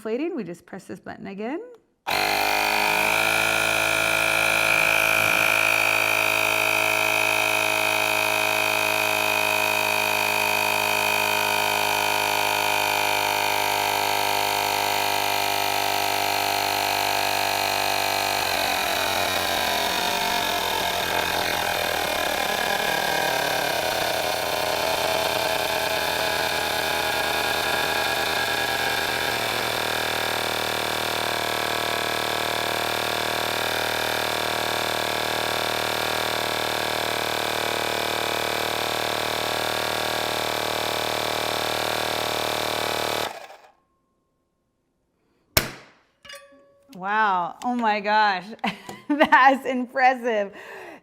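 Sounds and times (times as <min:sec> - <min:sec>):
portable air compressor running: 0:02.1 - 0:43.7.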